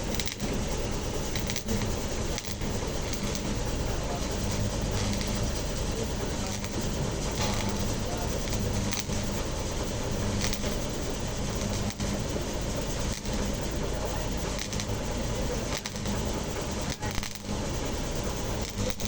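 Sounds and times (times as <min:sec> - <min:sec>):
low electrical hum: 0:00.0 - 0:19.0
welding hiss: 0:00.0 - 0:19.0.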